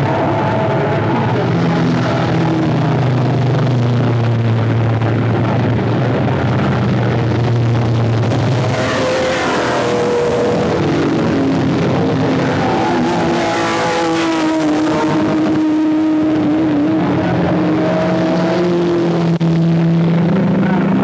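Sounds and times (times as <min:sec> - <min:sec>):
racing car engines: 0:00.0 - 0:21.0.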